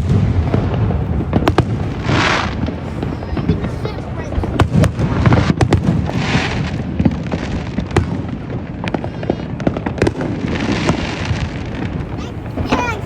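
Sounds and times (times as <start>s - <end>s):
crackling hiss of fireworks: 0.0s - 13.0s
fireworks bangs and pops: 0.0s - 13.0s.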